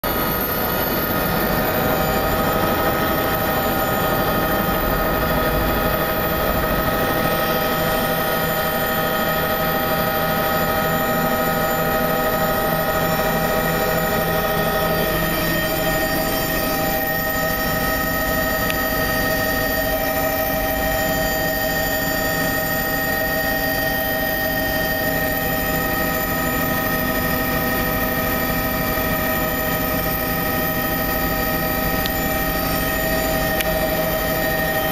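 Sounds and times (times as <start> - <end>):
helicopter turbine and rotor: 0.0 - 34.9.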